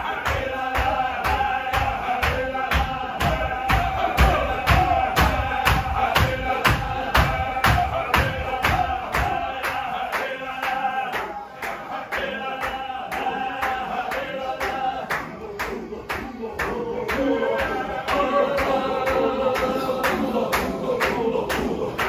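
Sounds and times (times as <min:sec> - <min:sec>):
men chanting in unison: 0:00.0 - 0:22.0
steady rhythmic beat: 0:00.0 - 0:22.0.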